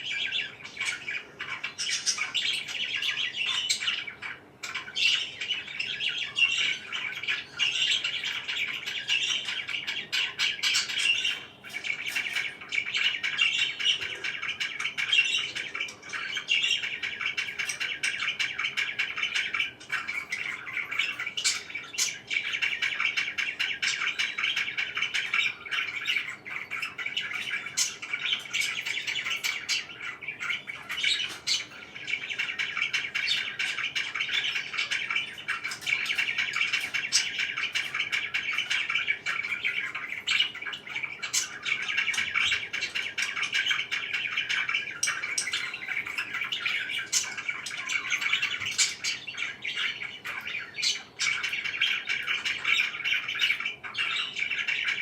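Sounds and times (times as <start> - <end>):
parakeets chirping: 0.0 - 55.0.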